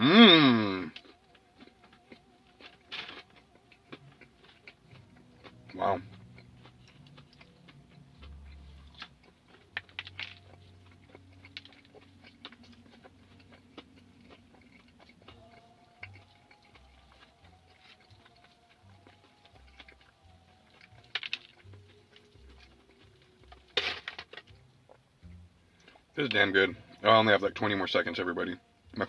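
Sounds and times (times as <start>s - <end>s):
chewing and biting food: 0.9s - 28.1s.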